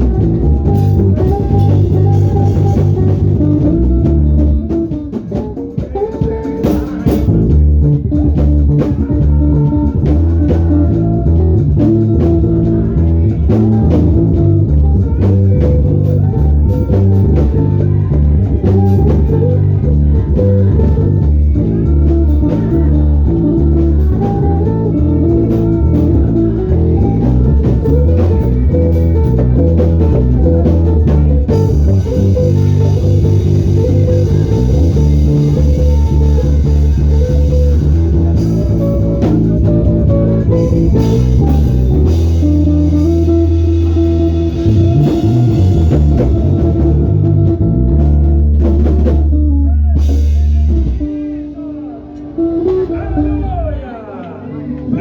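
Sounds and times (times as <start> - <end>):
bass guitar line: 0.0 - 55.0
instrumental band music: 0.0 - 55.0.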